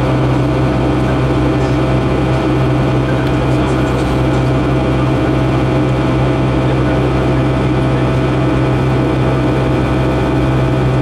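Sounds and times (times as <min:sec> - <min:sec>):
high steady whining tones: 0:00.0 - 0:11.0
jet engine drone in cabin: 0:00.0 - 0:11.0.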